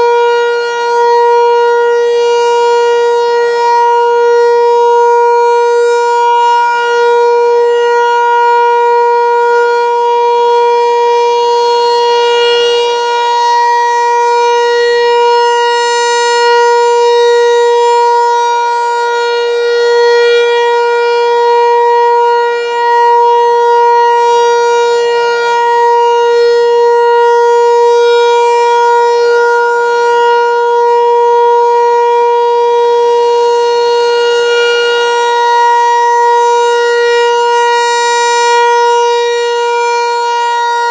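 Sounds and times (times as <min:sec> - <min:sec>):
warning siren steady pitch: 0:00.0 - 0:40.9.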